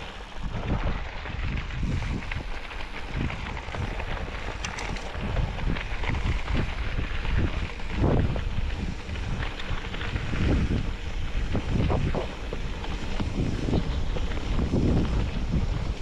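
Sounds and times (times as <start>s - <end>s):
vehicle engine and road rumble: 0.0s - 16.0s
wind buffeting microphone: 0.0s - 16.0s.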